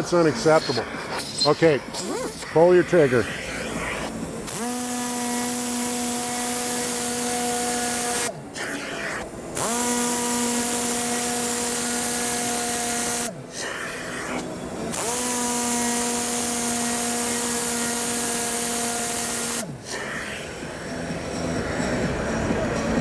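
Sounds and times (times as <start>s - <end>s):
vacuum cleaner whining: 0.0s - 23.0s.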